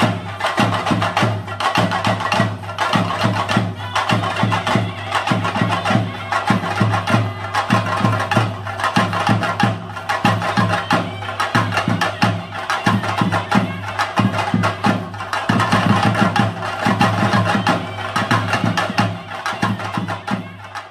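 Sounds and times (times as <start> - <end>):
fast drumming: 0.0 - 20.9.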